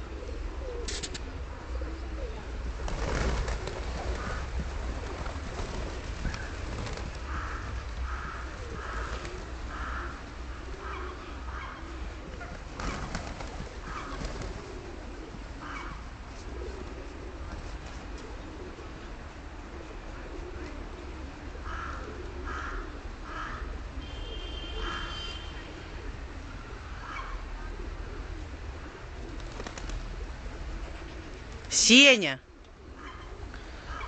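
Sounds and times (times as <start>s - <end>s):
pigeons cooing: 0.0s - 31.7s, 32.5s - 34.0s.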